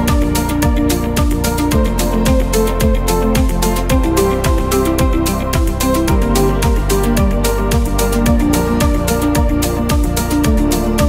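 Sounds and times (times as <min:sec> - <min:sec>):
electronic music with low beat: 0:00.0 - 0:11.0.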